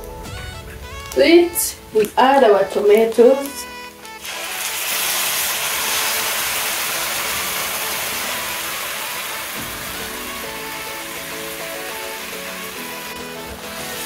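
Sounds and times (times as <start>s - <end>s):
tomatoes sizzling in hot pot: 0.0s - 14.0s.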